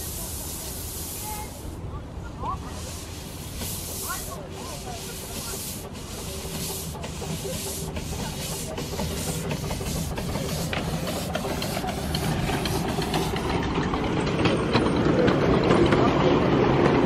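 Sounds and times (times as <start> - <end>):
steam locomotive chuffing: 0.0 - 1.9, 2.6 - 17.0
wheels rumbling on track: 0.0 - 17.0.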